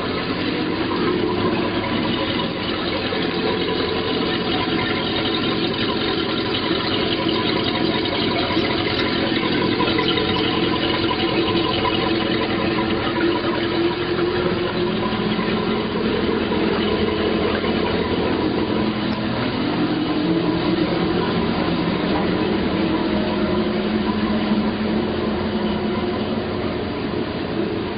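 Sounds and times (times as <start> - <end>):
boat engine idling: 0.0 - 27.9
water splashing: 0.0 - 27.9.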